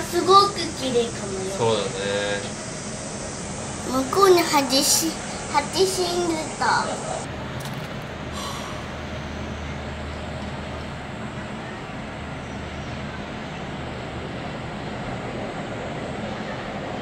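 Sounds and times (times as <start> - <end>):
distant city traffic hum: 0.0 - 17.0.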